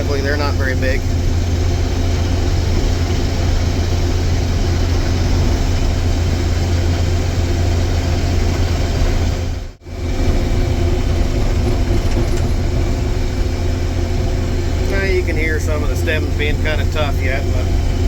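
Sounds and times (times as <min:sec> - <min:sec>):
harvester engine drone: 0:00.0 - 0:18.0
threshing machinery hum: 0:00.0 - 0:18.0.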